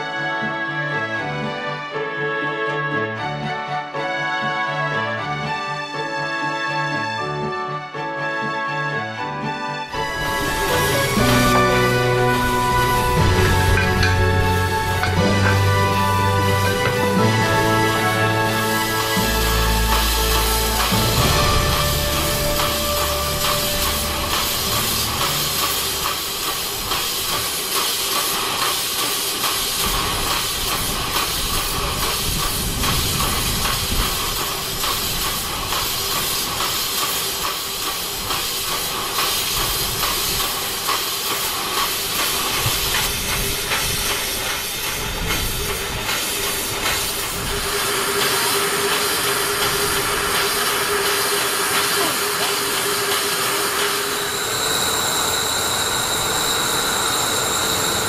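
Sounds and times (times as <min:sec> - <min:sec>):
steam locomotive hissing: 0:09.9 - 0:58.0.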